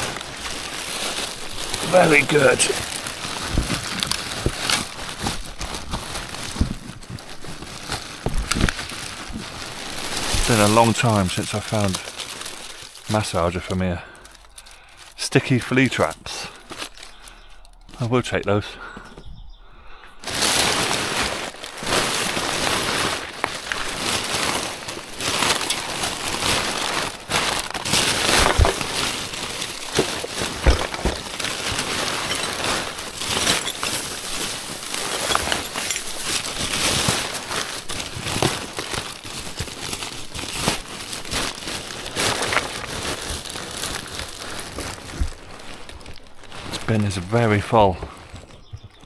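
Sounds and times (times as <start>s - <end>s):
paper and plastic rustling: 0.0s - 18.6s, 20.2s - 49.0s.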